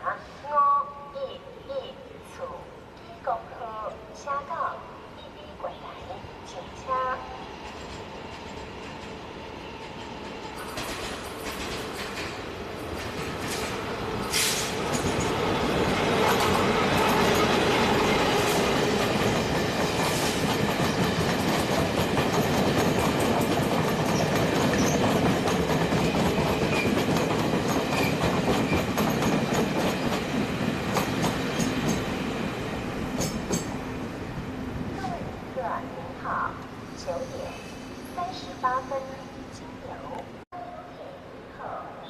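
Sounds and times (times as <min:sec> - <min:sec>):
train rumbling: 0:03.6 - 0:40.4.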